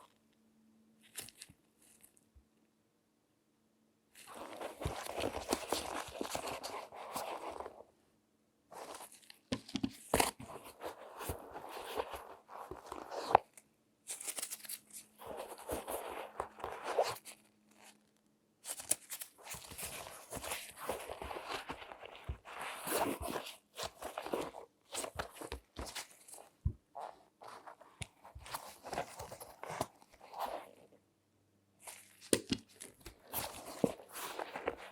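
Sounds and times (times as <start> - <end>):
crinkling and rustling handling: 1.0 - 2.3, 4.1 - 7.9, 8.7 - 31.0, 31.8 - 34.9.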